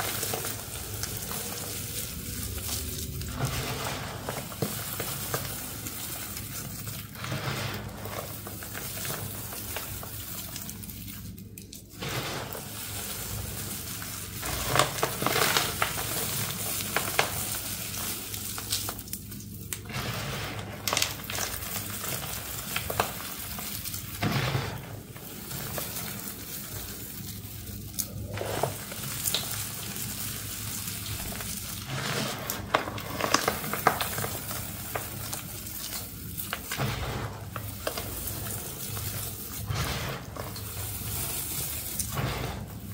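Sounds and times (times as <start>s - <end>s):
hands crunching gritty powder: 0.0s - 42.9s.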